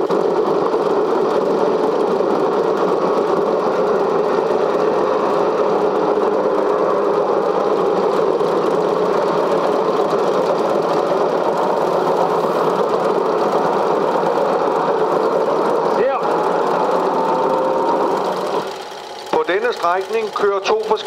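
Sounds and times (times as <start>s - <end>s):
film projector whirring: 0.0s - 21.0s.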